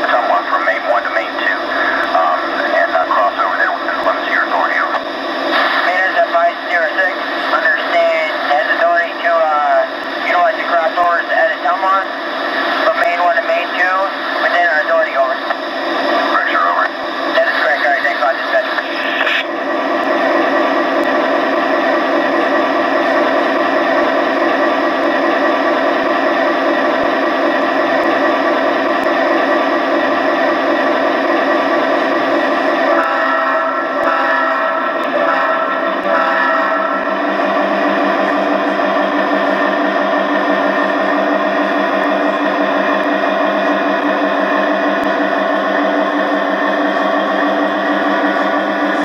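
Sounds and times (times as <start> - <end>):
model diesel engine sound: 0.0 - 49.0.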